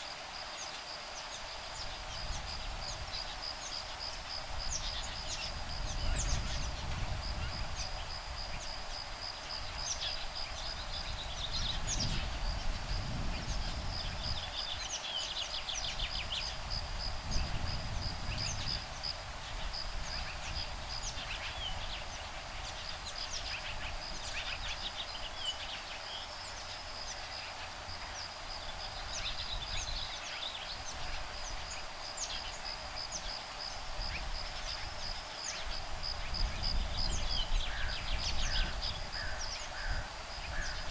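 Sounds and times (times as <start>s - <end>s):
high insect trill: 0.0s - 40.9s.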